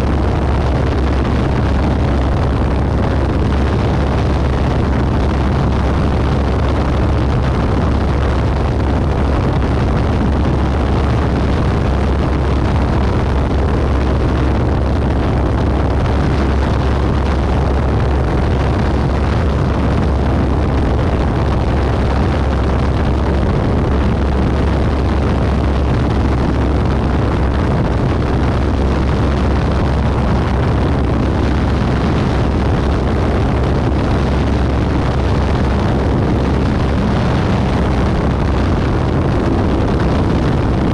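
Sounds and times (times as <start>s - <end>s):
light aircraft engine drone: 0.0s - 40.9s
rushing air noise: 0.0s - 40.9s.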